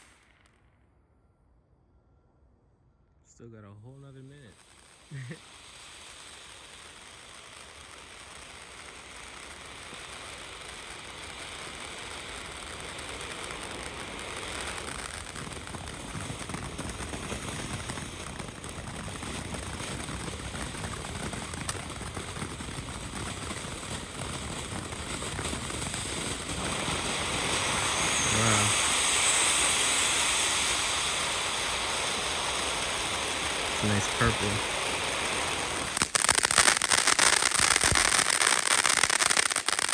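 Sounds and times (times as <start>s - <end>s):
firework fountain hissing: 0.0s - 0.6s, 3.9s - 39.9s
firework crackling: 0.0s - 0.8s, 3.8s - 39.9s.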